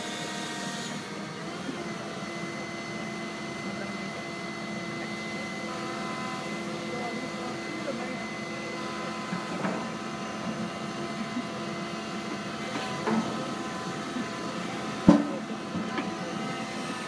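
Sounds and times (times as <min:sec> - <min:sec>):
excavator engine humming: 0:00.0 - 0:17.0.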